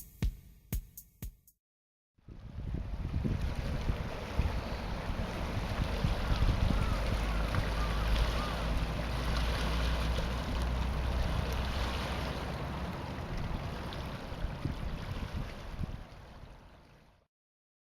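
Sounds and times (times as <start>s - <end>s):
wind rumbling on microphone: 2.2s - 16.8s
water rushing: 2.4s - 17.2s.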